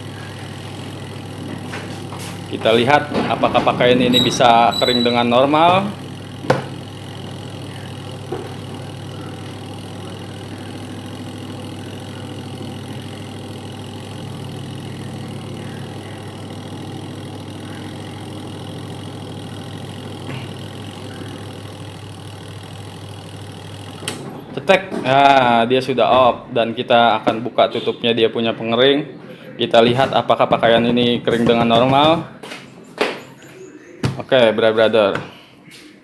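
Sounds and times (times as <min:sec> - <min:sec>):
spin dryer motor humming: 0:00.0 - 0:36.0.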